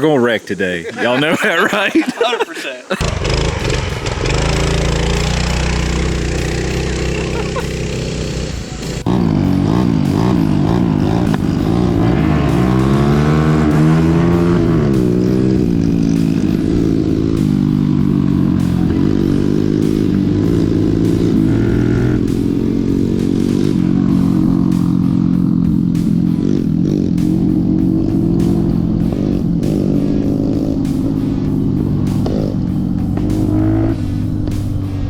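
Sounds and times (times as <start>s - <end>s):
mini-bike engines revving: 3.0s - 35.0s.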